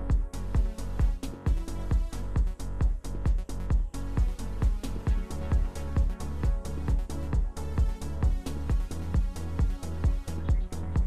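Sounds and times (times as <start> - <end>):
electronic music with kick drum: 0.0 - 11.0.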